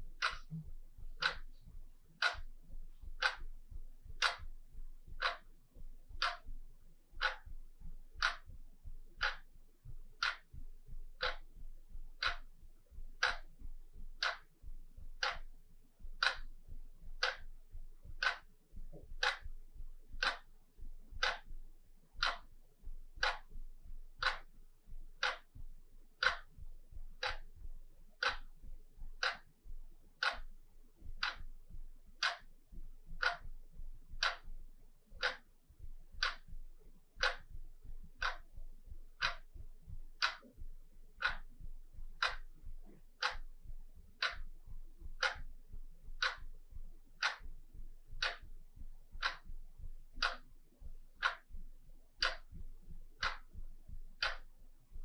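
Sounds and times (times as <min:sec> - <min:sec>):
wall clock ticking: 0:00.0 - 0:55.0.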